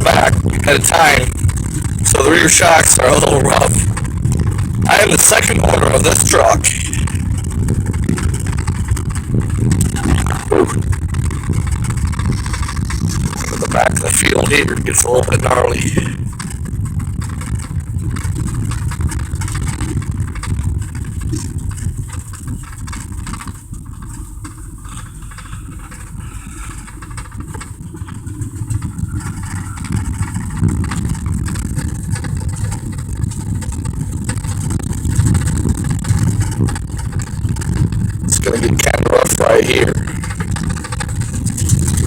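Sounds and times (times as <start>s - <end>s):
road noise: 0.0s - 38.9s
truck engine running: 0.0s - 42.0s.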